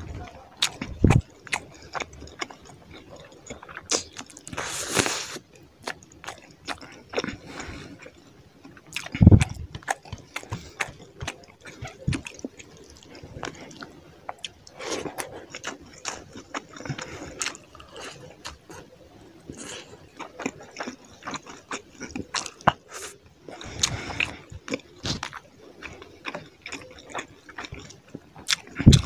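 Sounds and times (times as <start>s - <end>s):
wet chewing and lip smacks: 0.6s - 4.6s, 5.4s - 18.9s, 19.5s - 29.0s.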